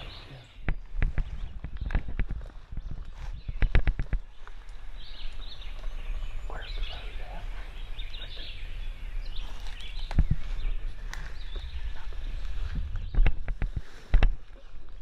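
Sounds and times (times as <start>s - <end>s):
steady low rumble: 0.0s - 14.3s
birds chirping: 0.0s - 15.0s.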